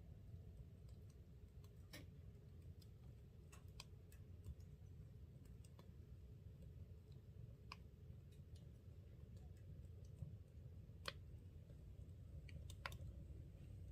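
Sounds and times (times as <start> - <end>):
low steady rumble: 0.0 - 13.9
wood fire crackling: 0.0 - 13.9.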